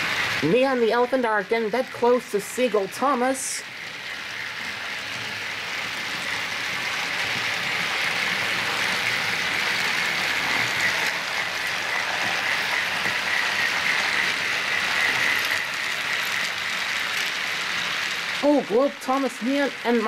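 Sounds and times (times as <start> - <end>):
toy train motor whirring: 0.0 - 20.0
wheels rattling on track: 0.0 - 20.0.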